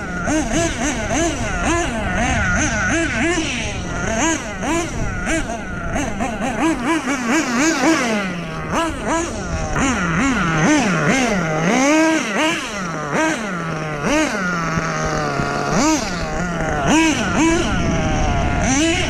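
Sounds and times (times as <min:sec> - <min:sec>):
model truck engine revving: 0:00.0 - 0:19.0.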